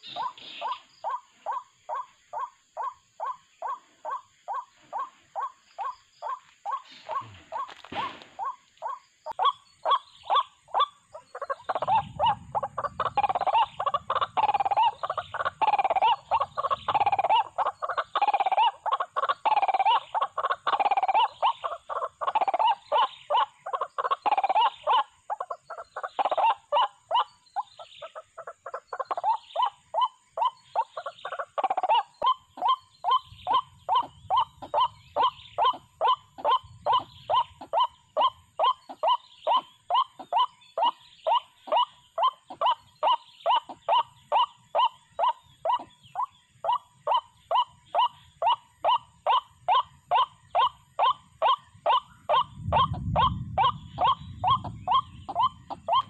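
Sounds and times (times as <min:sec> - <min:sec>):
waterhen calling: 0:00.0 - 0:56.0.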